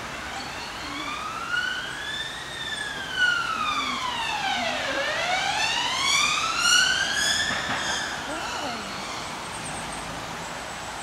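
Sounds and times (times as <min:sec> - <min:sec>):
emergency siren wailing: 0:00.0 - 0:09.4.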